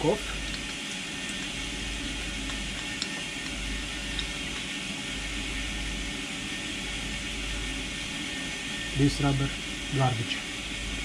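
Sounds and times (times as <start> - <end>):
machinery hiss and hum: 0.0 - 11.0.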